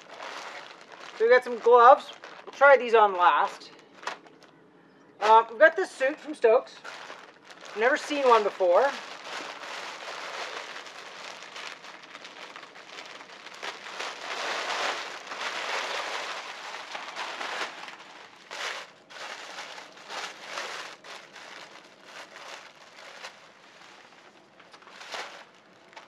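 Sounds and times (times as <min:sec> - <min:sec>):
plastic packaging crinkling: 0:00.0 - 0:04.6, 0:06.7 - 0:26.0.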